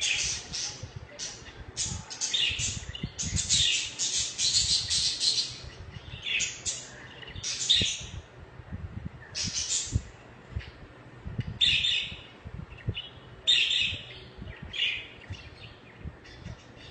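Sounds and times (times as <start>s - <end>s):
budgies chattering and warbling: 0.0s - 8.2s, 9.2s - 10.8s, 11.6s - 16.9s.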